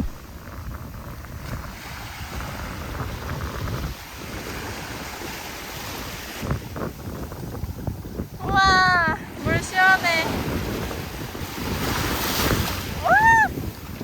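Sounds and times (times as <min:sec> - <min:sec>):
sea water washing: 0:00.0 - 0:14.0
wind on microphone: 0:00.0 - 0:14.0.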